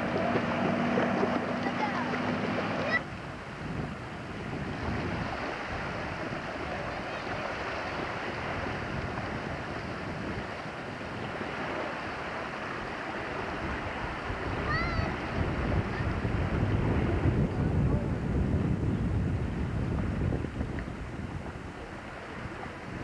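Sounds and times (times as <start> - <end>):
small waves washing: 0.0 - 23.0
wind buffeting microphone: 0.0 - 23.0.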